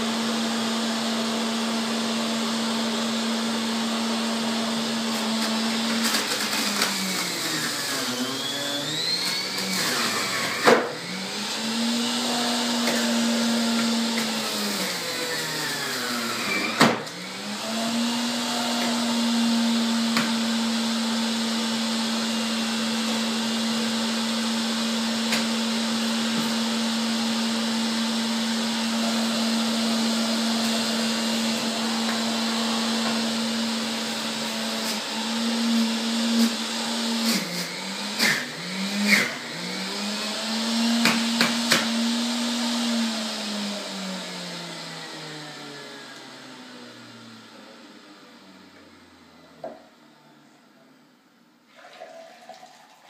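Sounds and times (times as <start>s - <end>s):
juicer motor humming and whining: 0.0s - 50.0s, 51.8s - 53.0s.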